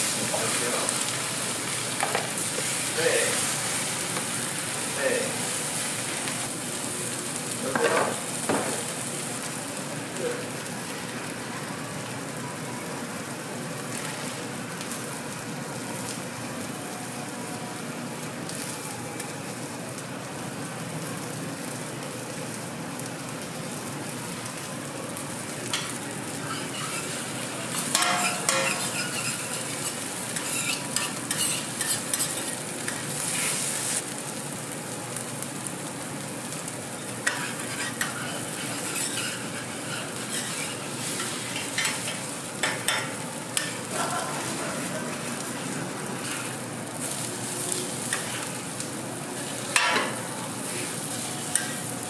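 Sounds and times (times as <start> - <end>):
food sizzling on a griddle: 0.0 - 52.0.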